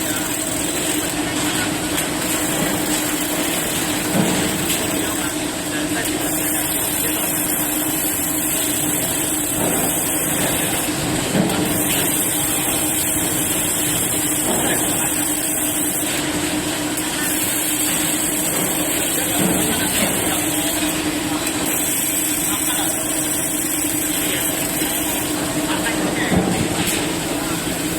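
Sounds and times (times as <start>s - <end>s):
welding hiss: 0.0s - 27.9s.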